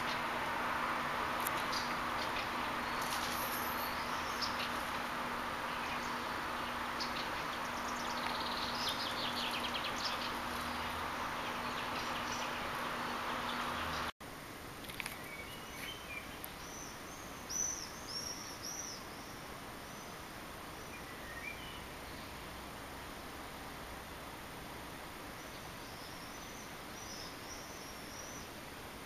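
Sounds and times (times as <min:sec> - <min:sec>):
small birds chirping: 0:00.0 - 0:14.1, 0:14.8 - 0:23.5, 0:24.3 - 0:28.8
steady hiss: 0:00.0 - 0:29.0.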